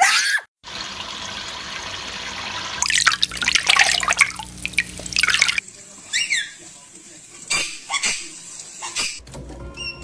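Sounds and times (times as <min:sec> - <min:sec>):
shower water running: 0:00.6 - 0:10.0.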